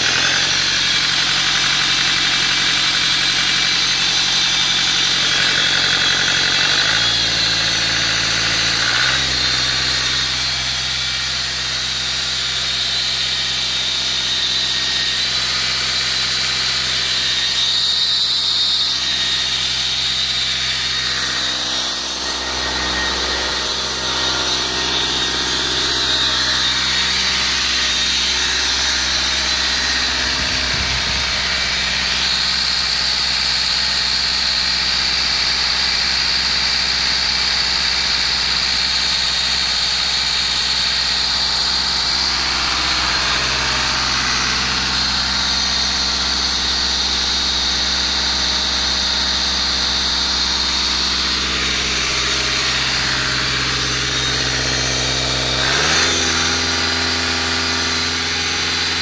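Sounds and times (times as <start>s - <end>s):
diesel engine running steadily: 0.0s - 59.0s.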